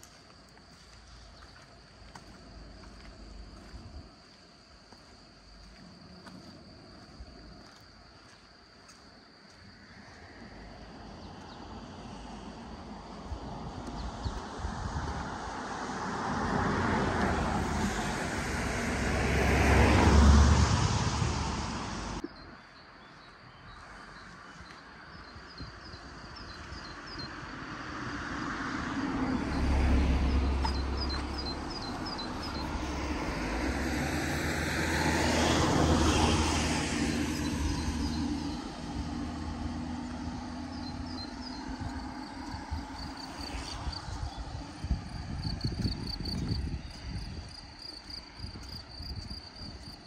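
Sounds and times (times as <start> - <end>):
vehicles passing on wet road: 0.0 - 9.0, 9.8 - 22.2, 27.0 - 46.4.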